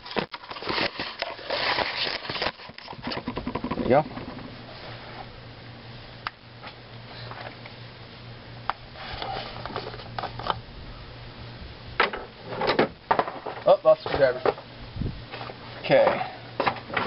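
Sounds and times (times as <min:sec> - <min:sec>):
steady low hum: 0:02.7 - 0:17.0.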